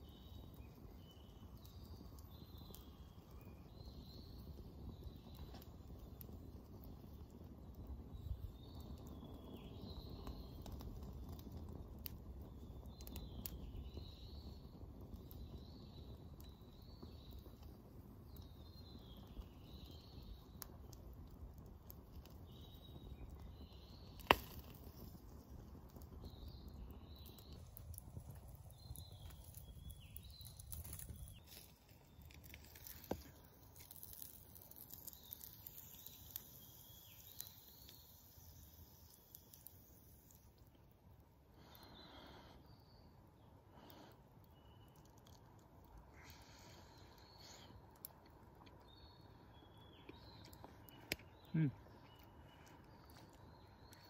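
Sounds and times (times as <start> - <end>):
campfire crackling: 0.0 - 54.0
fire popping: 0.0 - 54.0.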